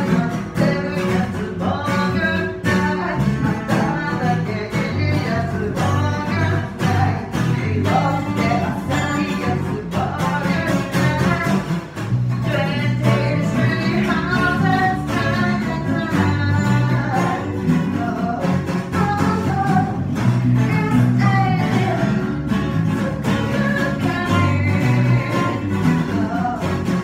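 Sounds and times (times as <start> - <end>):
acoustic guitar strumming: 0.0 - 27.0
electric bass line: 0.0 - 27.0
person singing: 0.0 - 27.0.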